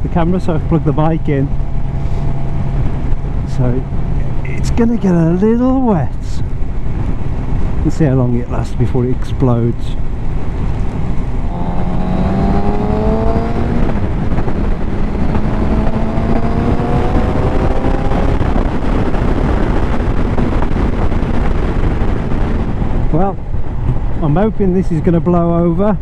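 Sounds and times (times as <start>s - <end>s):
motorcycle engine accelerating: 0.0s - 7.9s, 10.0s - 24.2s
wind noise on microphone: 0.0s - 26.0s.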